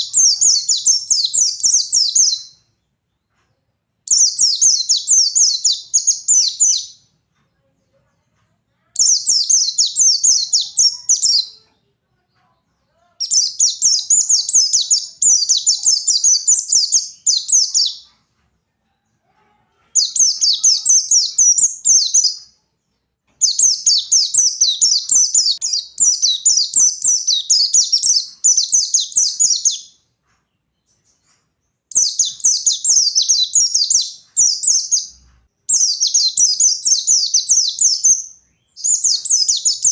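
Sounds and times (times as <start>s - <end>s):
bird chattering song: 0.0s - 3.3s, 4.1s - 7.1s, 9.0s - 11.7s, 12.9s - 18.3s, 20.0s - 22.6s, 23.4s - 39.9s.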